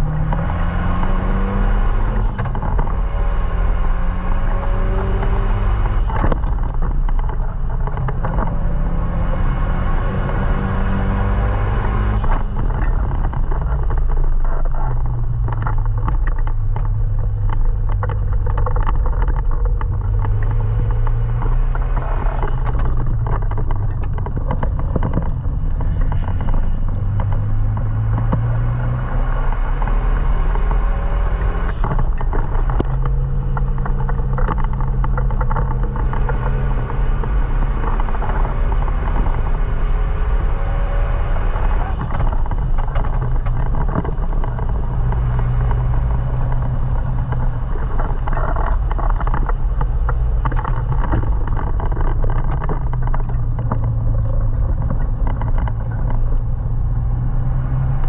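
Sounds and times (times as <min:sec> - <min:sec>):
car engine accelerating hard: 0:00.0 - 0:58.0
road noise: 0:00.0 - 0:58.0.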